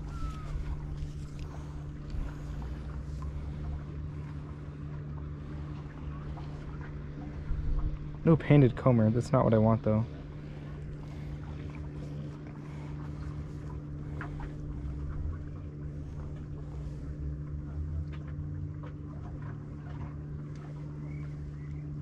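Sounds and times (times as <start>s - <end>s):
steady low engine hum: 0.0s - 22.0s
wavering low rumble: 0.0s - 22.0s.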